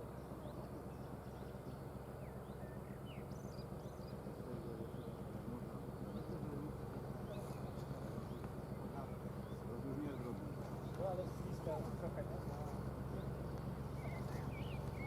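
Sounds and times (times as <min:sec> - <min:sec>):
diesel engine idling: 0:00.0 - 0:15.0
small birds chirping: 0:00.0 - 0:15.0.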